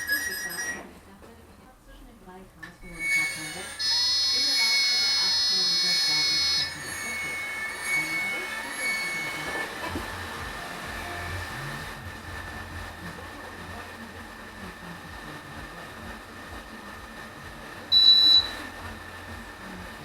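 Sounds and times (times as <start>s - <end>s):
electric motors whining: 2.6s - 20.0s.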